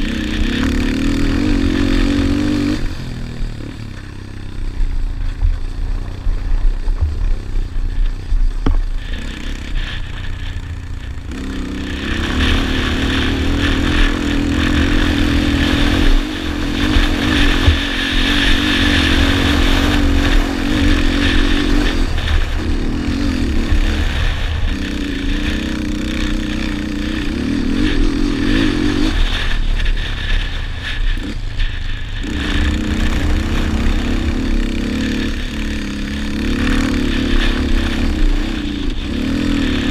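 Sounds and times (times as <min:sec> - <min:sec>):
low rumble: 0:00.0 - 0:39.9
quad engine revving: 0:00.0 - 0:39.9.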